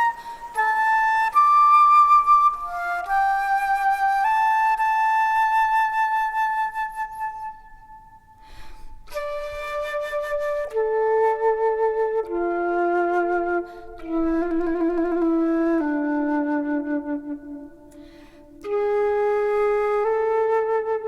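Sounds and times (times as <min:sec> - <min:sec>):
slow flute melody: 0:00.0 - 0:21.0.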